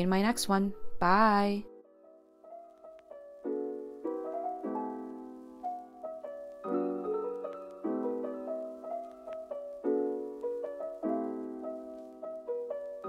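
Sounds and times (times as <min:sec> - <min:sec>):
slow gentle piano piece: 0:01.6 - 0:13.0.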